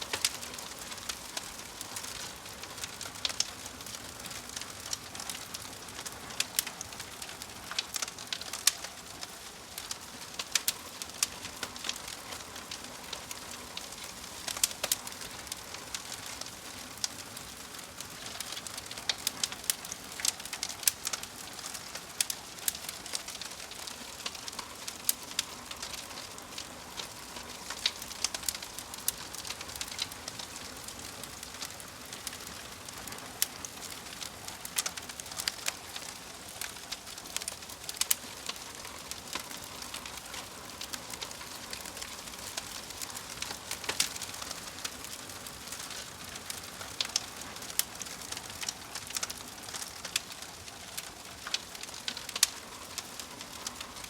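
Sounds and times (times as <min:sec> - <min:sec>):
fire popping and snapping: 0:00.0 - 0:54.0
soft hiss of fire: 0:00.0 - 0:54.0
wood fire crackling: 0:00.0 - 0:54.0.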